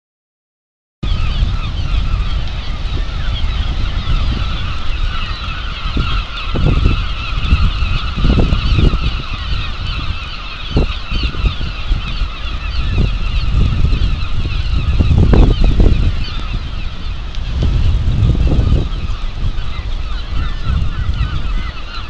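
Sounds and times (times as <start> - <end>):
gulls calling: 1.0 - 22.0
low rumble in gusts: 1.0 - 22.0.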